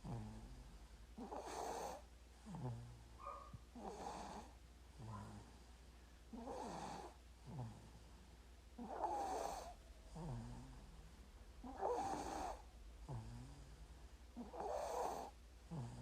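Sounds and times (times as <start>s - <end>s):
baby snoring softly: 0.0s - 5.6s, 6.3s - 8.2s, 8.8s - 16.0s.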